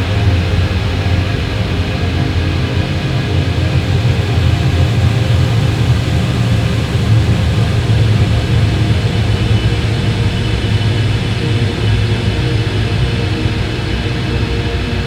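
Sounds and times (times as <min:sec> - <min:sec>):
slow ambient drone: 0:00.0 - 0:15.0.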